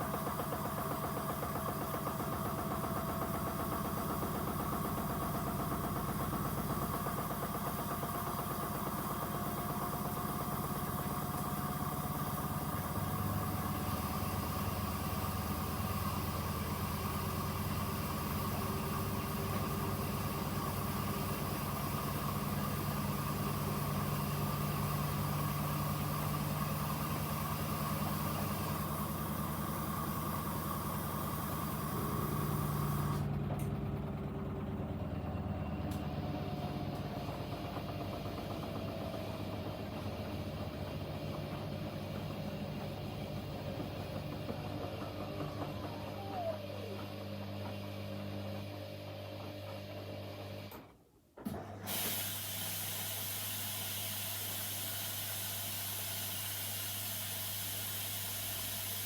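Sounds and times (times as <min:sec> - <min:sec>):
washing machines running: 0:00.0 - 0:59.0.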